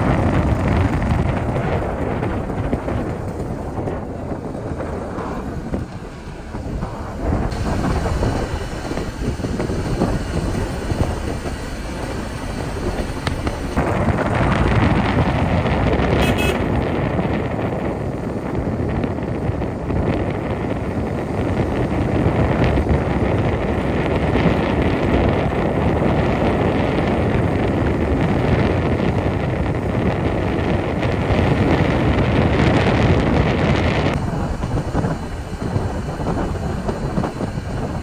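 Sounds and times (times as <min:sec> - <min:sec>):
vehicle road rumble: 0:00.0 - 0:38.0
wind buffeting microphone: 0:00.0 - 0:38.0.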